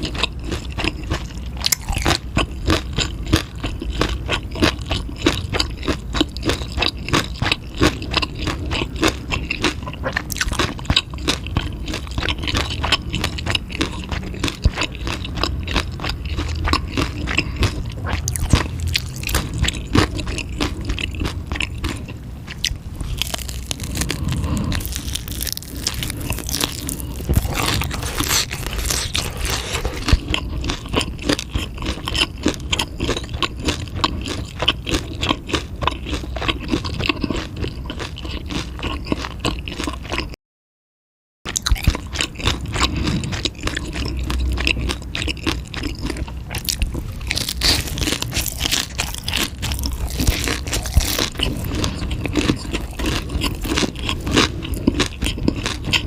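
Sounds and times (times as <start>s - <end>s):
chewing crunchy food: 0.0s - 40.4s, 41.5s - 56.0s.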